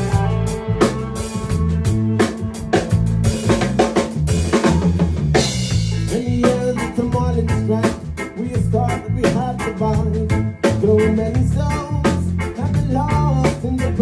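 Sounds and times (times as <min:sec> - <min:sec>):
bass line: 0:00.0 - 0:14.0
drum kit hits: 0:00.0 - 0:14.0
electric guitar: 0:00.0 - 0:14.0
reggae band playing: 0:00.0 - 0:14.0.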